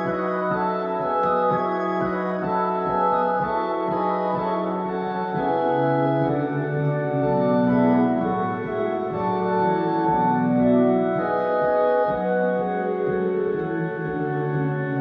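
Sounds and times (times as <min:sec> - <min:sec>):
organ chords on digital piano: 0:00.0 - 0:15.0.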